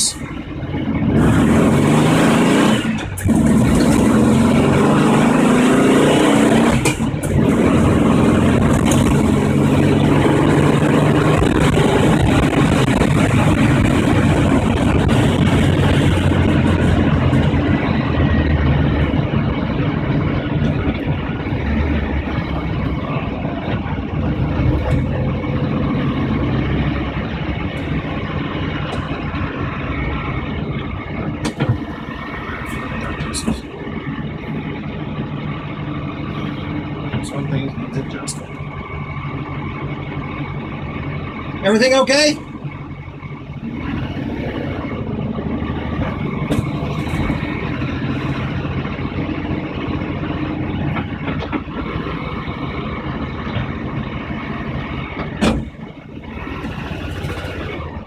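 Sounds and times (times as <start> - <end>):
car engine accelerating through gears: 0.0 - 58.0.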